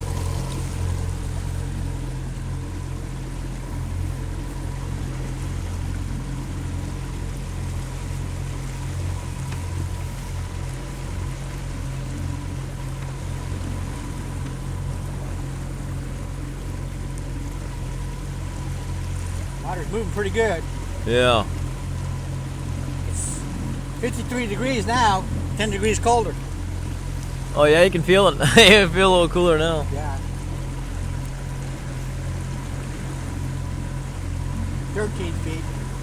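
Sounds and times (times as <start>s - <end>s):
boat motor running: 0.0s - 36.0s
water rushing past hull: 0.0s - 36.0s.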